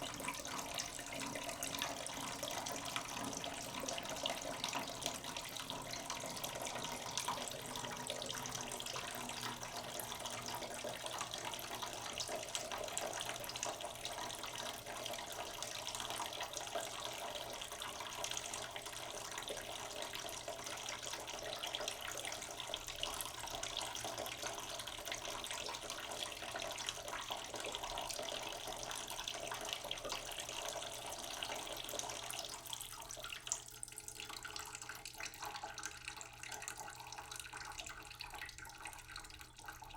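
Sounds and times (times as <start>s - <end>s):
water running from tap: 0.0s - 39.9s.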